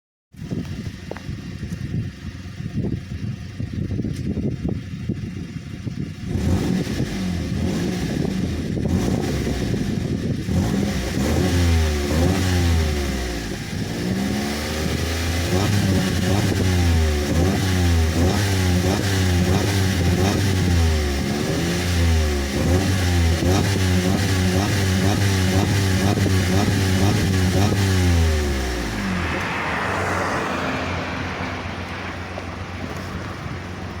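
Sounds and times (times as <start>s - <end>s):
car engine revving: 5.8s - 34.0s.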